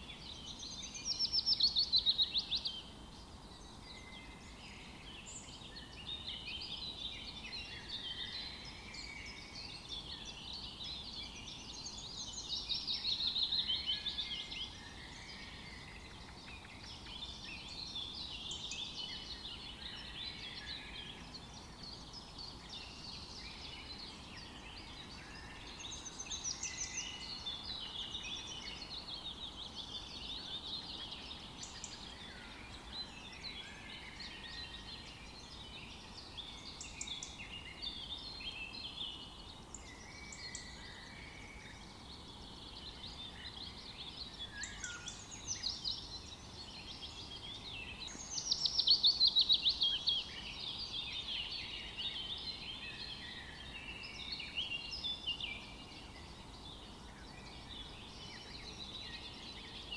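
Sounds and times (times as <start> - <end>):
faint steady hiss: 0.0 - 59.9
forest birds singing: 0.0 - 59.9.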